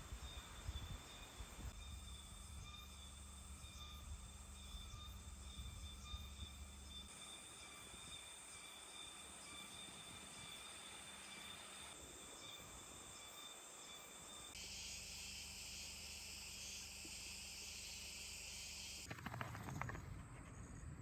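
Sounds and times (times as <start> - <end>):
insects trilling: 0.0 - 20.9.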